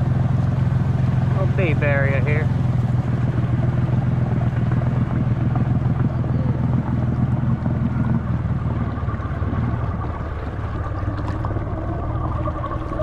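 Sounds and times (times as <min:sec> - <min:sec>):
quad engine running: 0:00.0 - 0:13.0.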